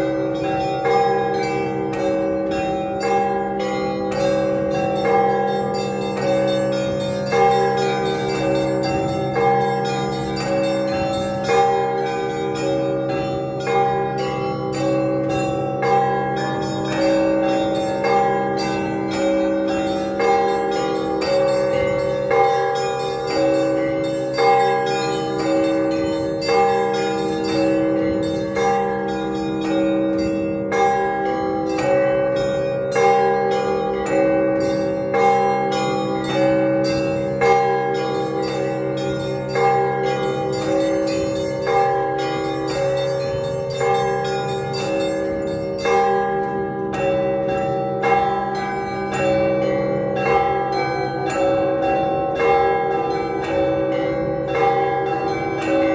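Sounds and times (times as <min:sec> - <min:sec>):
deep tones of large bells: 0:00.0 - 0:55.9
small bells striking rapidly: 0:00.0 - 0:55.9.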